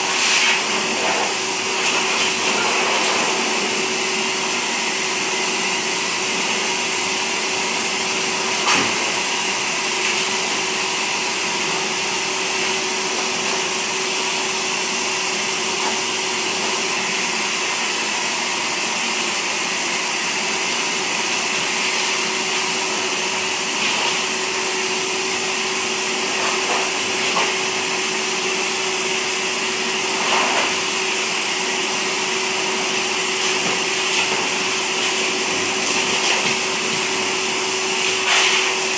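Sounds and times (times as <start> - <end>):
blow dryer running: 0.0 - 38.9.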